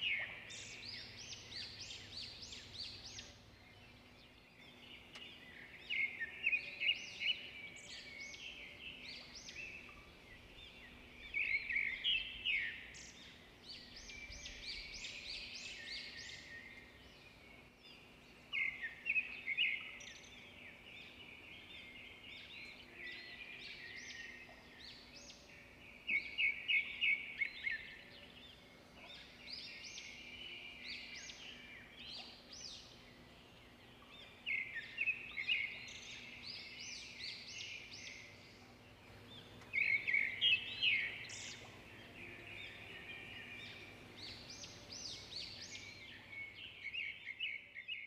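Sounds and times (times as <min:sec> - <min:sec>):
faint steady hum: 0:00.0 - 0:47.6
birds chirping: 0:00.0 - 0:48.0.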